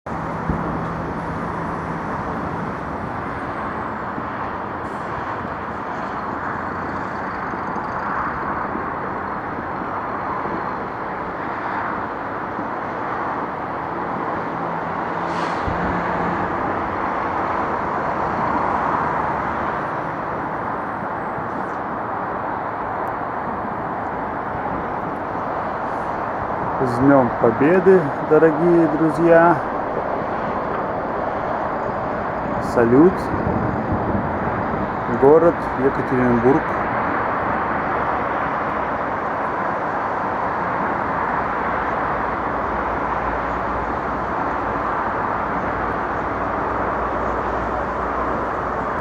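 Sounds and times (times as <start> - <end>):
traffic: 0.0 - 49.0
street hubbub: 0.1 - 49.0.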